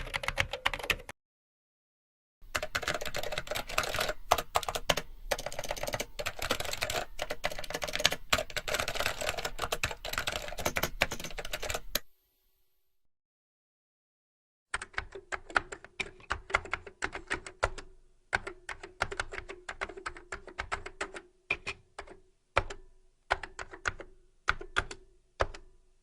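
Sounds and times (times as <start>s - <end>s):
typing on computer keyboard: 0.0s - 1.2s, 2.5s - 12.1s, 14.7s - 25.7s.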